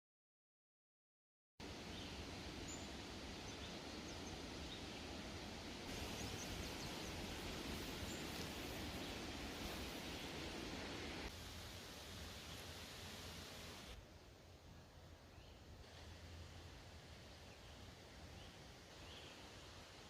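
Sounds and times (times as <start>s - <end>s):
steady background hiss: 1.6s - 20.0s.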